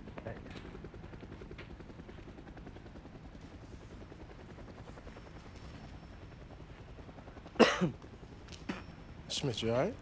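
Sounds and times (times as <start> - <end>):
helicopter rotor chopping: 0.0 - 10.0.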